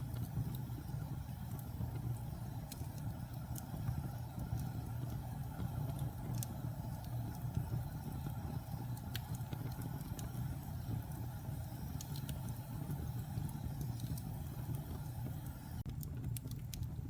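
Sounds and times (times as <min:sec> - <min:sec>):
fire crackles and pops: 0:00.0 - 0:17.0
wood fire burning: 0:00.0 - 0:17.0.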